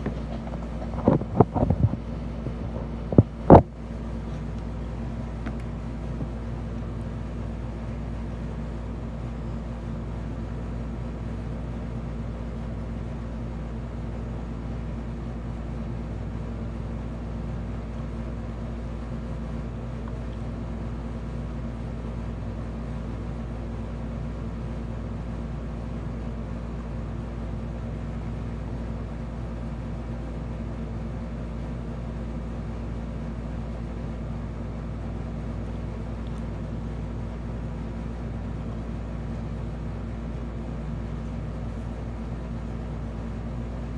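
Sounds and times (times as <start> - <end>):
low machine hum: 0.0 - 43.9.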